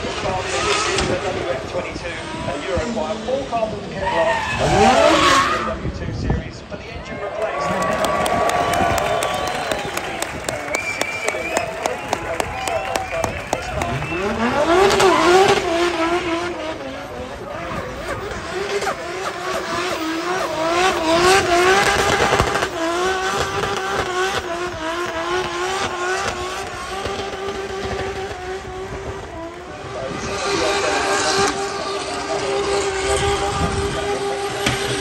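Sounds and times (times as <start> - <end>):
racing car engine revving: 0.0 - 6.2, 7.6 - 35.0.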